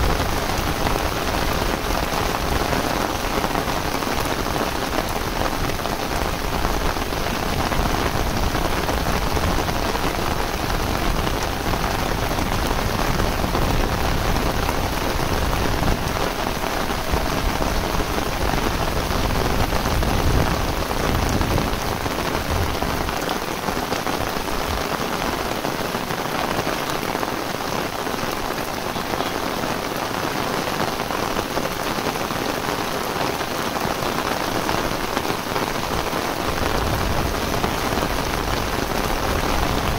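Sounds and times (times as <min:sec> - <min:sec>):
heavy rain on concrete: 0:00.0 - 0:39.9.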